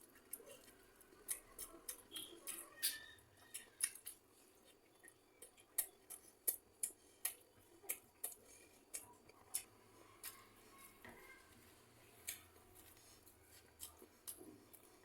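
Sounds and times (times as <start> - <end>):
person chewing and smacking: 0.0 - 10.5, 12.2 - 15.0.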